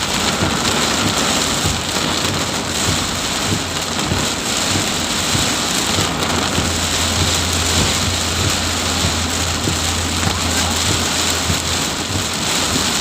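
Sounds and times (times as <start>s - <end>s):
heavy rain pouring: 0.0s - 13.0s
low rumble: 0.0s - 13.0s.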